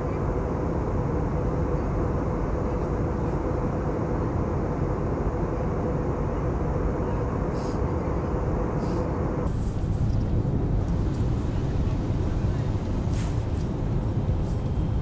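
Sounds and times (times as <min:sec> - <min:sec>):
jet engines and rushing air: 0:00.0 - 0:15.0.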